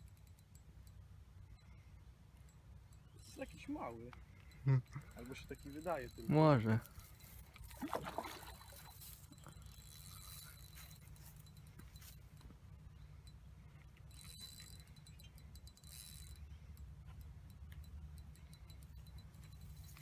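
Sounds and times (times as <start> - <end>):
low steady hum: 0.0 - 20.0
fishing reel ticking: 2.4 - 12.5, 13.2 - 20.0.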